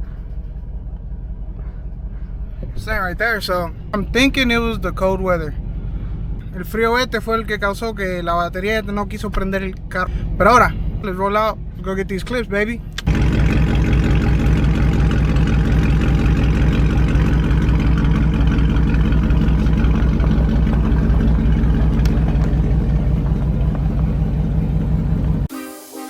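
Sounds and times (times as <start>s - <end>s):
car engine exhaust rumble: 0.0s - 25.5s.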